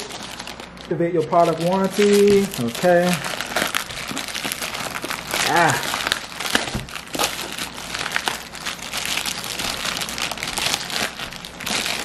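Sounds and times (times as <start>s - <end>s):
plastic mailer bag tearing: 0.0s - 12.0s.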